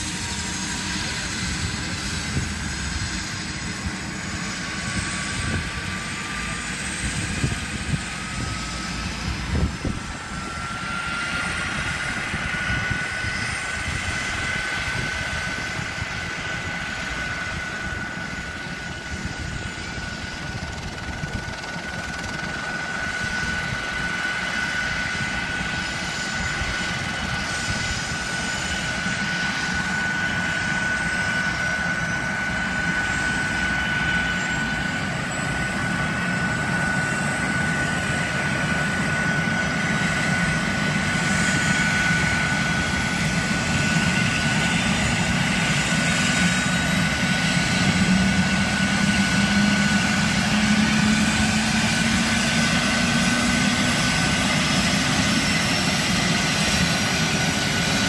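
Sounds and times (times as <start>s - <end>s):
helicopter engines whining: 0.0s - 58.0s.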